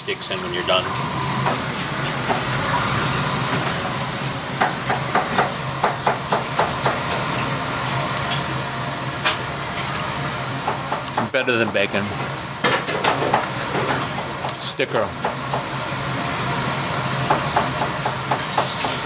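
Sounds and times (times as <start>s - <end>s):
kitchen grill hissing: 0.0s - 19.0s.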